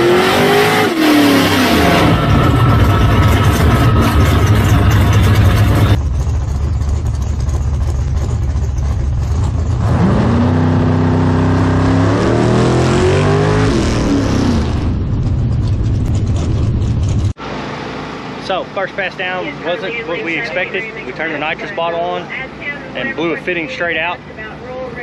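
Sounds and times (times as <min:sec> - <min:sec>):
drag car engine revving: 0:00.0 - 0:22.2.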